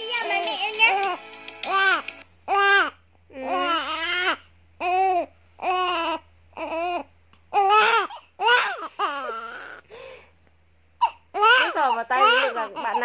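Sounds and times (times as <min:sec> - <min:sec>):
baby crying: 0:00.9 - 0:09.8, 0:11.0 - 0:13.0.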